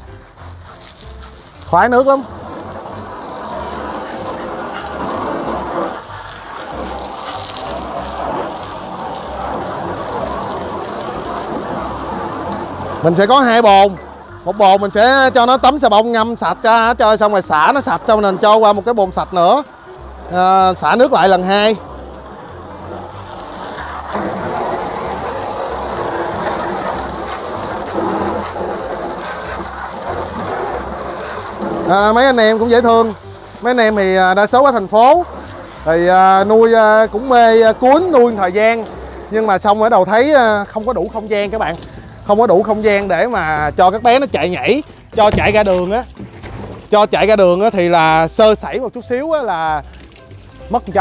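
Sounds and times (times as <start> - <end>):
hose water splashing in plastic tub: 0.0 - 51.0.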